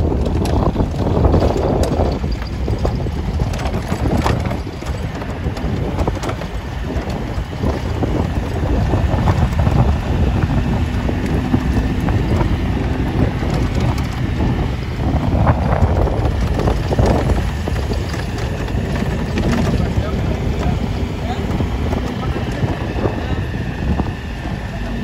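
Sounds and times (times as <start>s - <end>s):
stones knocking and rattling: 0.0s - 22.7s
vehicle engine and tyres rumbling: 0.0s - 25.0s
wind buffeting microphone: 0.0s - 25.0s.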